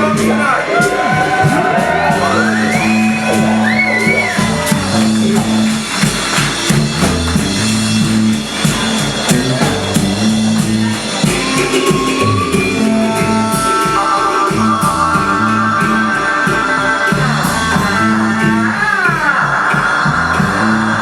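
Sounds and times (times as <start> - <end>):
live band playing roots music: 0.0 - 21.0.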